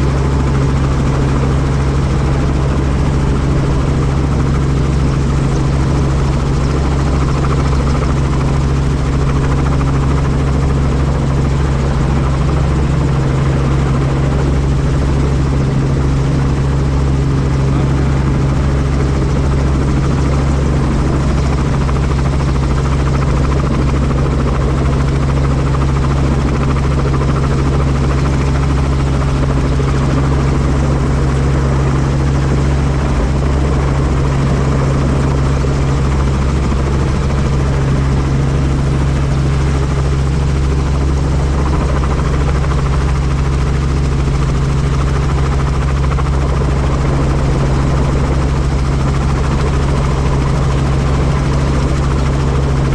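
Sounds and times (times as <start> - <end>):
helicopter rotor and engine drone: 0.0 - 52.9.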